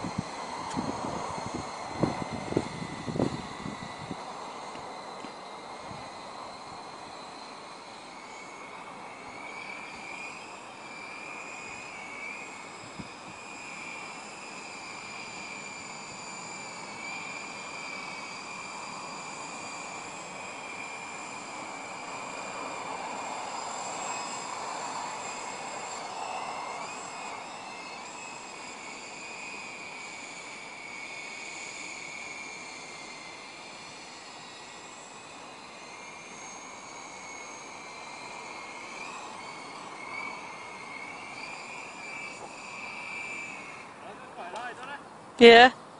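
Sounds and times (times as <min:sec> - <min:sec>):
rushing haze: 0:00.0 - 0:45.1
toy helicopter motor whine: 0:00.0 - 0:45.9.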